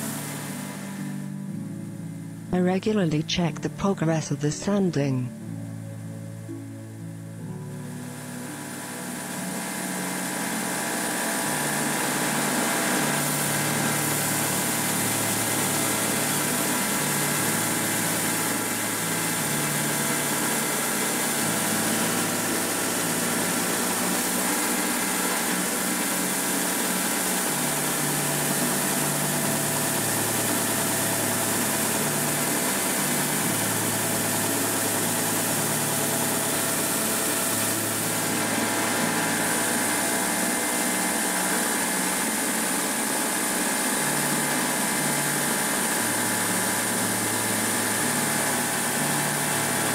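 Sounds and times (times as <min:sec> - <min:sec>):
belt sander running: 0:00.0 - 0:02.4, 0:07.5 - 0:49.9
dust extractor running: 0:00.0 - 0:02.5, 0:05.4 - 0:49.9.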